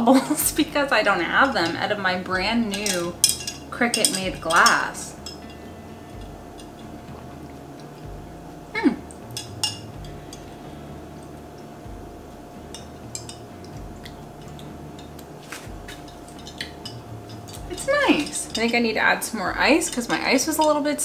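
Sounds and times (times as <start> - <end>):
steady faint hum: 0.0 - 21.0.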